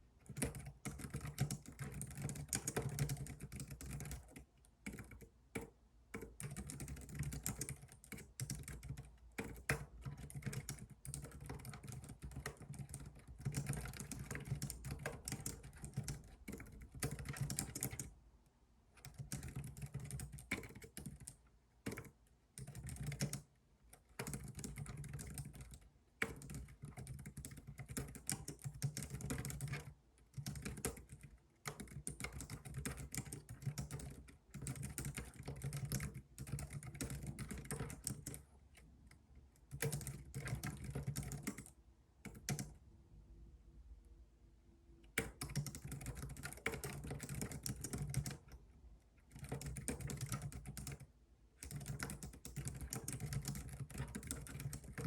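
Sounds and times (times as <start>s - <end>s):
typing on computer keyboard: 0.2s - 18.1s, 19.0s - 42.8s, 45.2s - 55.0s.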